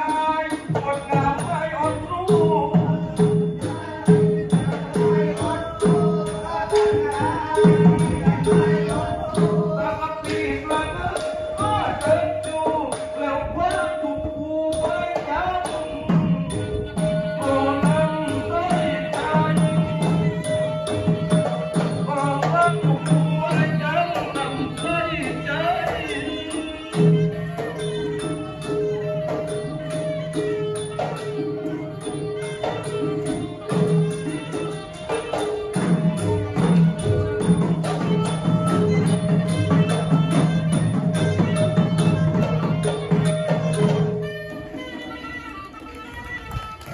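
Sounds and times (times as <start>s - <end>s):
sharp metallic beat: 0.0s - 44.5s.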